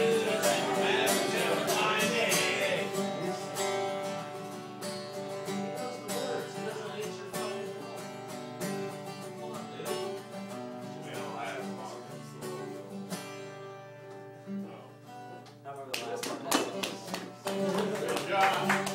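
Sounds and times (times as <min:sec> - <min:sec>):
acoustic guitar strumming: 0:00.0 - 0:15.9, 0:16.6 - 0:18.9.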